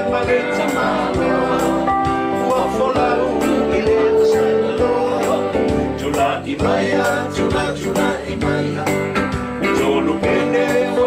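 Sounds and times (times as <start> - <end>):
voices singing: 0.0 - 11.0.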